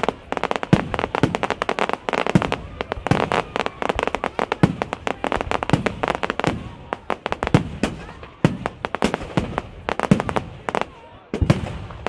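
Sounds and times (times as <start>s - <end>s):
deep firework bangs: 0.0s - 12.0s
fireworks crackling and popping: 0.0s - 12.0s.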